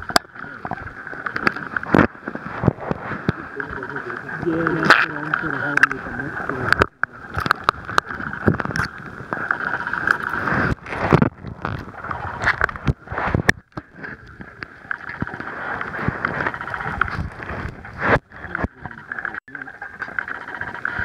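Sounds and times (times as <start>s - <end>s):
octopus scraping on camera: 0.0s - 21.0s.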